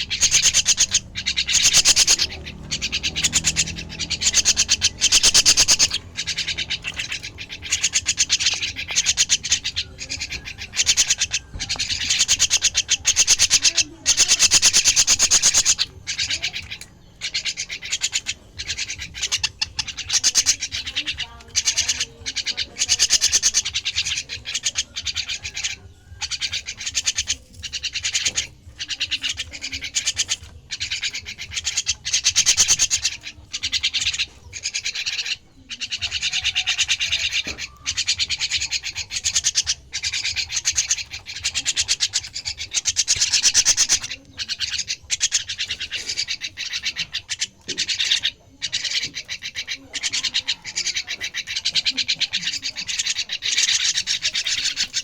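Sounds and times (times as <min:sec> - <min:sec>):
bird chick raspy begging calls: 0:00.0 - 0:55.0.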